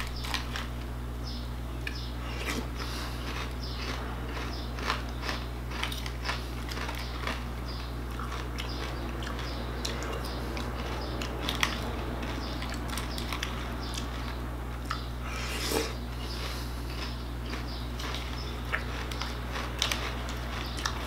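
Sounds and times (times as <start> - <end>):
chewing and crunching cereal: 0.0 - 0.9, 1.8 - 21.0
steady low hum: 0.0 - 21.0.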